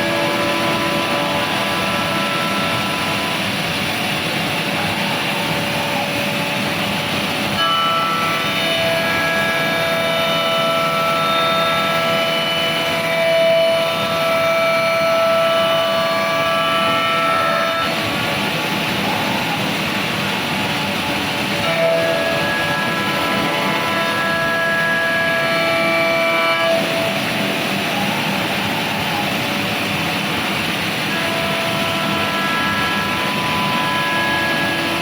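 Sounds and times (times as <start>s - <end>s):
machining center running: 0.0s - 35.0s
whining motor tones: 0.0s - 35.0s.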